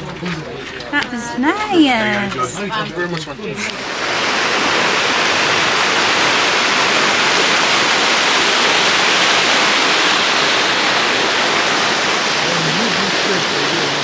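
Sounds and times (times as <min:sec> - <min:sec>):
rushing running water: 0:02.6 - 0:14.0.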